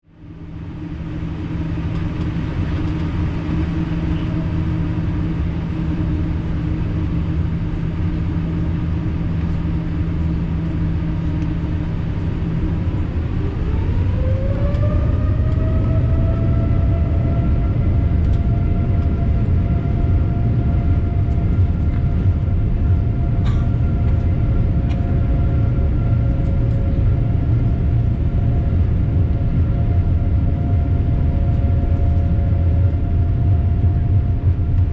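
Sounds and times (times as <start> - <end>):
jet engines rumbling: 0.1 - 34.9
jet engine whine rising: 0.2 - 34.9.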